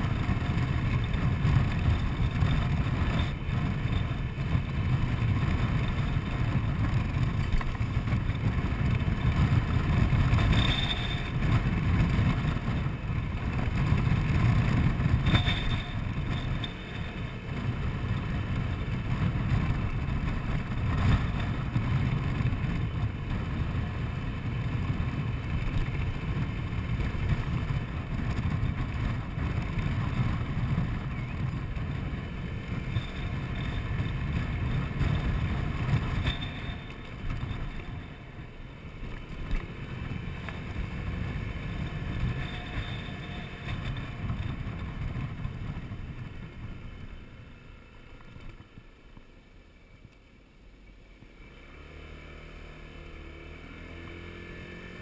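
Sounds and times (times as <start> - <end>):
scooter engine: 0.0 - 49.9, 51.2 - 55.0
wind rumble on microphone: 0.0 - 50.2
road noise: 0.0 - 55.0.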